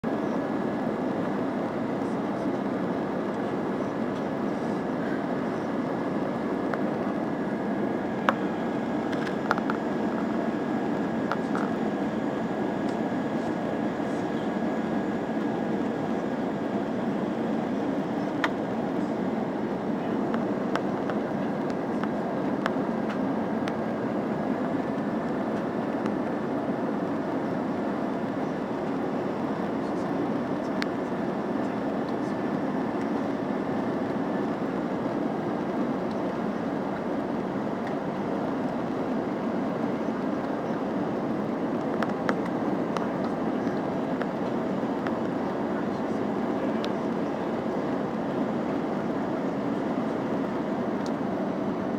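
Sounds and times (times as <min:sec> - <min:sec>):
airliner engine and airflow drone: 0:00.0 - 0:51.9
faint steady whine: 0:00.0 - 0:51.9.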